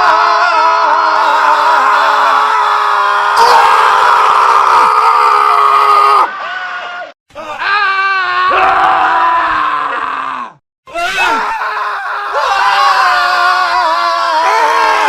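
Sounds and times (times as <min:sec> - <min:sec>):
men screaming: 0:00.0 - 0:15.0.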